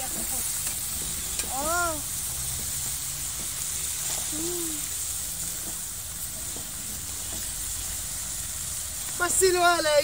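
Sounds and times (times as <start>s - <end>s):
rice sizzling in fat: 0.0s - 10.0s.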